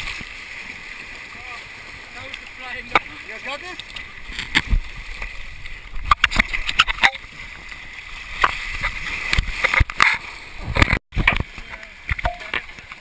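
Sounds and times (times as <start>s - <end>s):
water splashing against camera: 0.0s - 13.0s.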